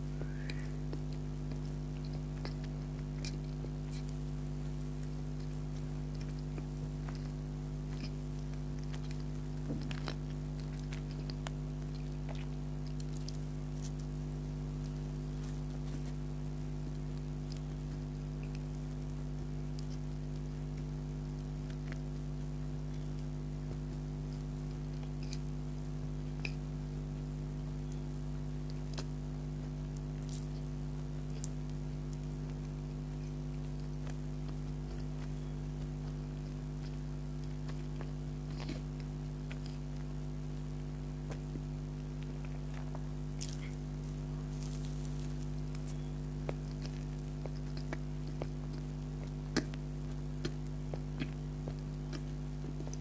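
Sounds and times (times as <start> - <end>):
low electrical hum: 0.0 - 53.0
soft chewing with mouth clicks: 0.0 - 53.0.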